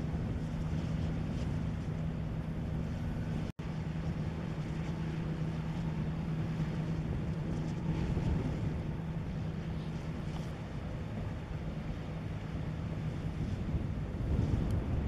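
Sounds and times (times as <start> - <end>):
ship engine drone: 0.0 - 15.0
wind on microphone: 0.0 - 15.0.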